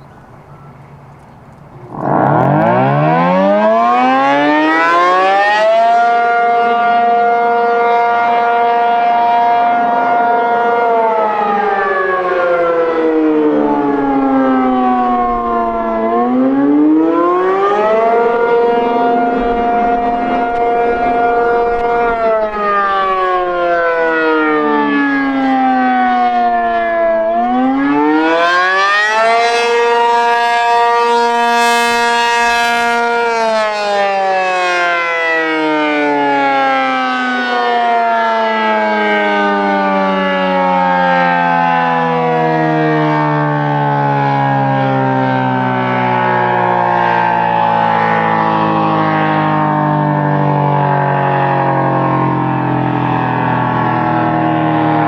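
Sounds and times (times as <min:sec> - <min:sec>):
outdoor warning siren gliding: 0:00.0 - 0:55.0.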